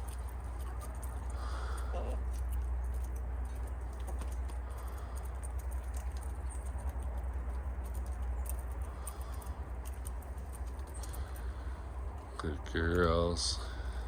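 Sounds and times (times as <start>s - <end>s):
light taps and clicks: 0.0s - 13.2s.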